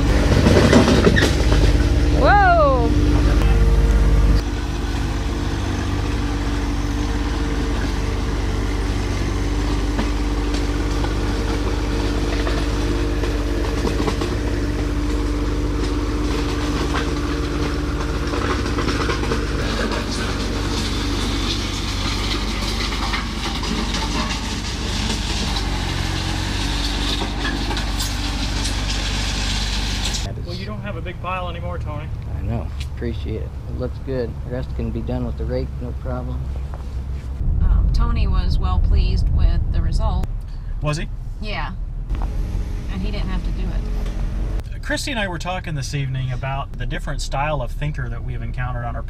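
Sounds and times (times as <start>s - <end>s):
diesel tractor engine running: 0.0s - 49.0s.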